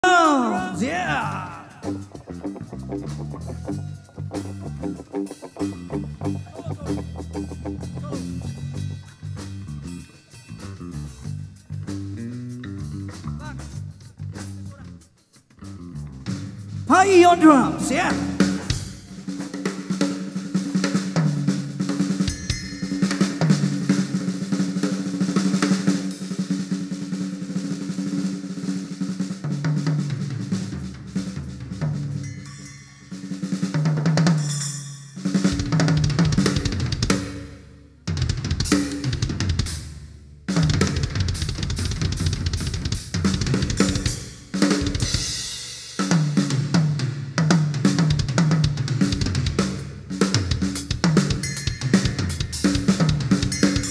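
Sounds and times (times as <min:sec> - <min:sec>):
drum kit fills and rolls: 0:00.0 - 0:09.8, 0:16.2 - 0:32.2, 0:35.3 - 0:37.5, 0:38.1 - 0:53.9.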